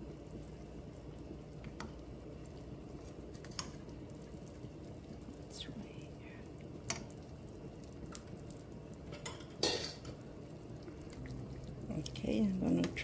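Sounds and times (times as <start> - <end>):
broth bubbling: 0.0 - 13.0.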